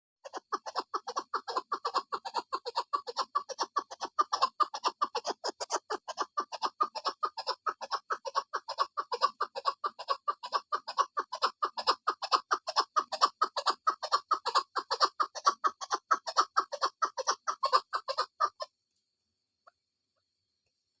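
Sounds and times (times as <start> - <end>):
partridge clucking calls: 0.2 - 18.7.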